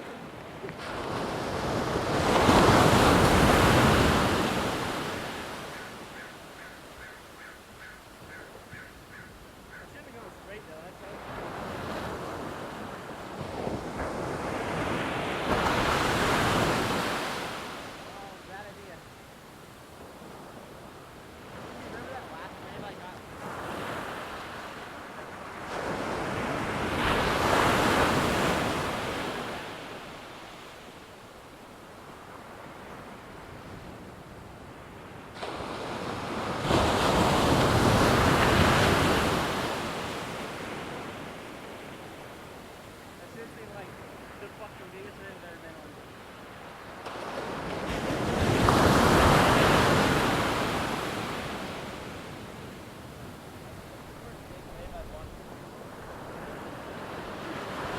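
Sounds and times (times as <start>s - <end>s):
ocean wave breaking: 0.0s - 19.2s, 21.3s - 31.1s, 35.3s - 57.9s.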